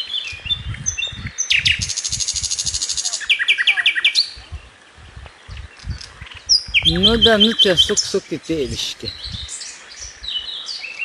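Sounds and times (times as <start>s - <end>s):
birds singing fast trill: 0.0s - 11.0s.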